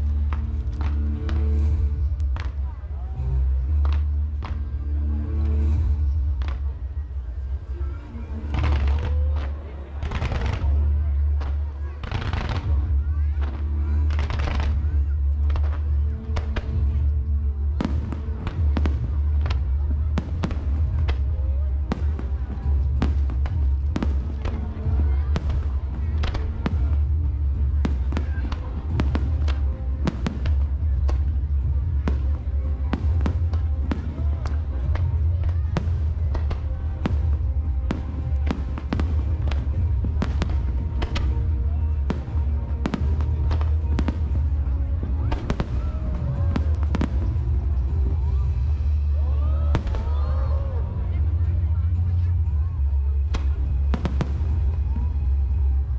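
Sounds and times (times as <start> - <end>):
deep rumble: 0.0 - 55.9
music soundtrack: 0.0 - 55.9
fireworks bursting: 5.4 - 49.1, 49.7 - 51.5, 53.2 - 55.9.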